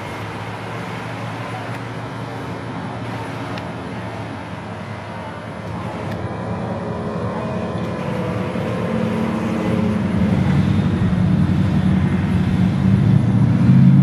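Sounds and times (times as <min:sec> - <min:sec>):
car engines humming: 0:00.0 - 0:14.0.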